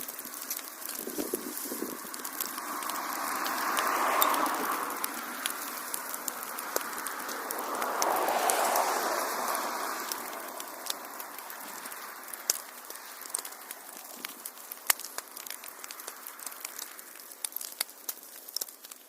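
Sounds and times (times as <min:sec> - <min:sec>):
hiss of flame: 0:00.0 - 0:18.7
wood fire pops and snaps: 0:00.0 - 0:19.0.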